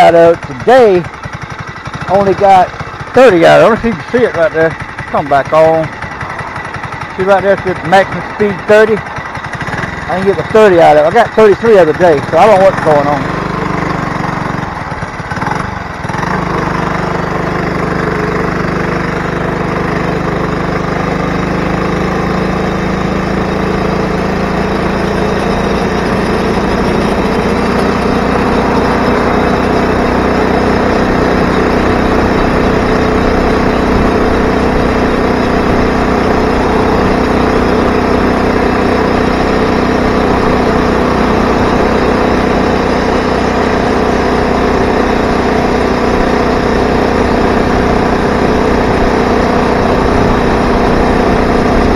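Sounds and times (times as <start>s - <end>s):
two-stroke engine running: 0.0s - 51.9s.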